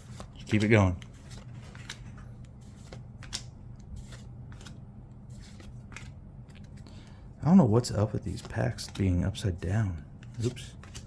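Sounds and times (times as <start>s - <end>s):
trading cards scraping and flicking: 0.0s - 7.2s, 7.8s - 11.0s.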